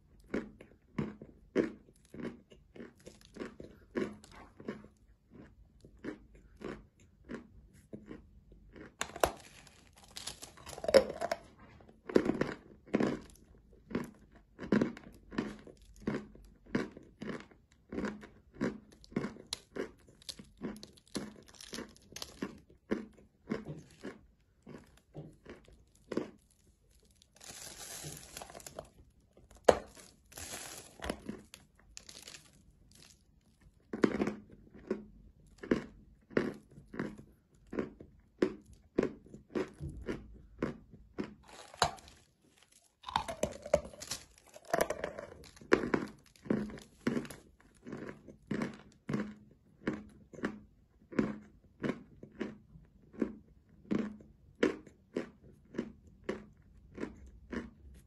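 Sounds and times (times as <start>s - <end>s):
steady grinding chewing: 0.0s - 58.0s.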